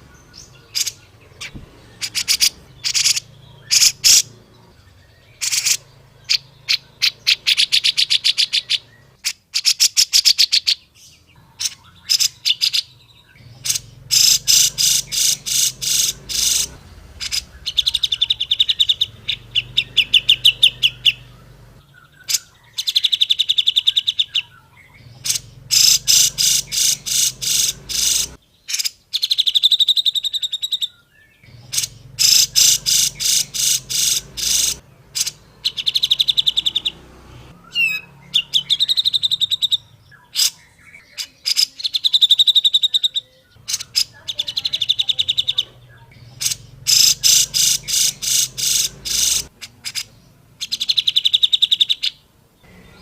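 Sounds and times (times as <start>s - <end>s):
bird chattering trills: 0.0s - 37.1s, 37.7s - 53.0s.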